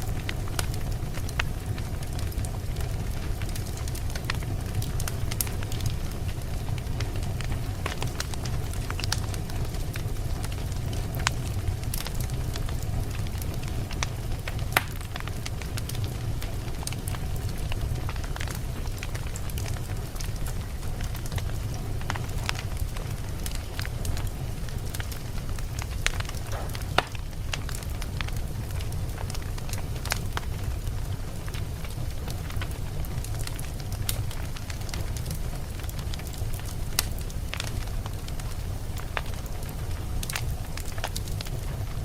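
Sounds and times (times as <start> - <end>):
low rumble of flames: 0.0 - 42.0
wood fire crackling and popping: 0.0 - 42.0.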